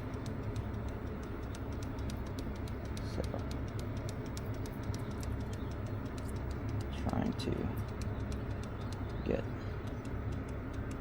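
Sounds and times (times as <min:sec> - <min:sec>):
hvac unit humming: 0:00.0 - 0:11.0
quick light ticks: 0:00.0 - 0:11.0.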